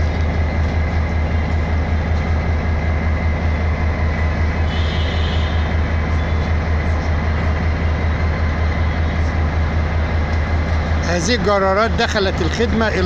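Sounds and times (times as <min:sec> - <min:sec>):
diesel locomotive engine throbbing: 0:00.0 - 0:13.0.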